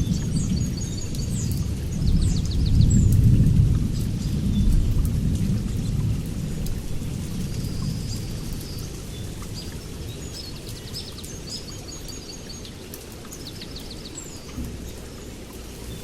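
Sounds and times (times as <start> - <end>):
low rumble of rain: 0.0 - 16.0
songbirds chirping: 0.0 - 16.0
drip-like clicks: 2.4 - 15.9.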